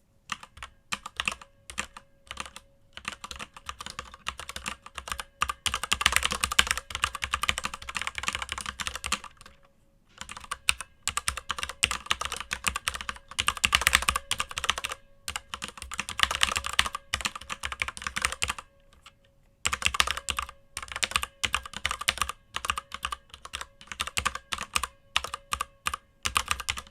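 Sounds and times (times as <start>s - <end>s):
fast mechanical keyboard typing: 0.3s - 9.5s, 10.2s - 18.6s, 19.7s - 26.9s.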